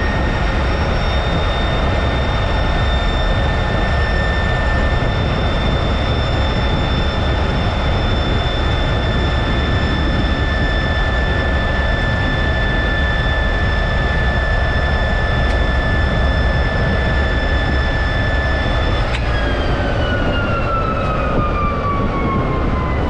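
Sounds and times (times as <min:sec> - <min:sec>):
jet engine whining: 0:00.0 - 0:23.0.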